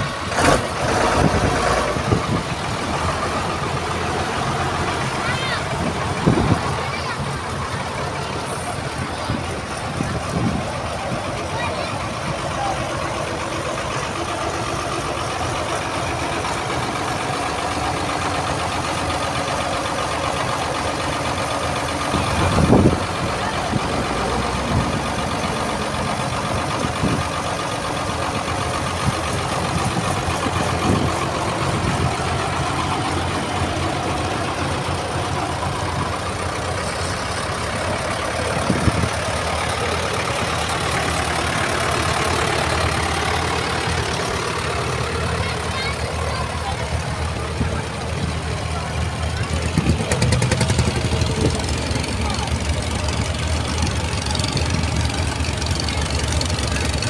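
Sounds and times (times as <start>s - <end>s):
diesel tractor engines running: 0.0s - 57.0s.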